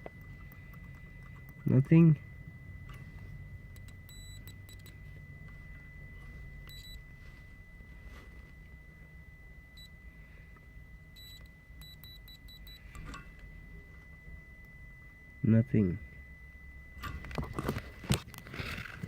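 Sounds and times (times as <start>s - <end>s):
high-pitched electronic tone: 0.0s - 19.0s.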